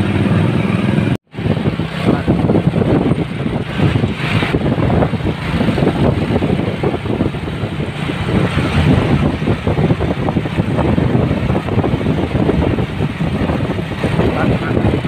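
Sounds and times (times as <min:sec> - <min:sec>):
truck diesel engine rumbling: 0:00.0 - 0:15.0
wind buffeting microphone: 0:00.0 - 0:15.0.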